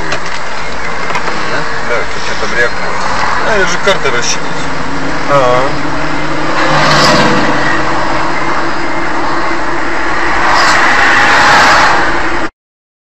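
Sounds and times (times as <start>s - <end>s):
car tyre and engine noise: 0.0s - 12.5s.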